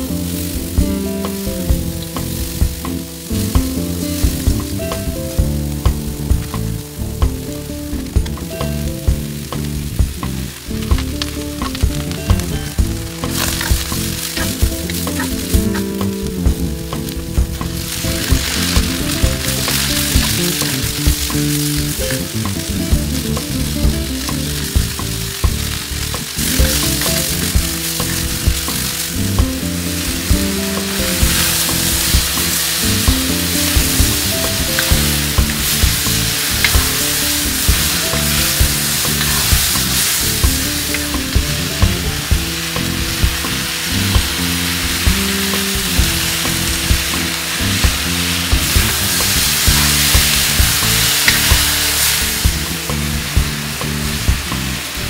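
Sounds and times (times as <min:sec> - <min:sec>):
vegetables sizzling in a wok: 0:00.0 - 0:55.0
utensil clacking against wok: 0:08.2 - 0:55.0.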